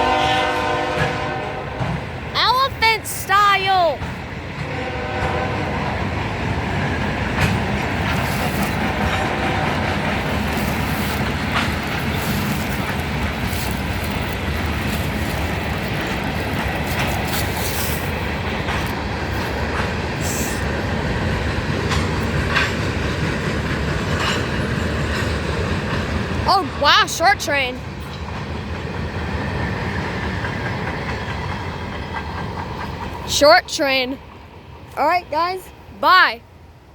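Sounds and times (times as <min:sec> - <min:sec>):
freight train rumbling: 0:00.0 - 0:36.9
wheels clicking over rail joints: 0:01.8 - 0:35.1.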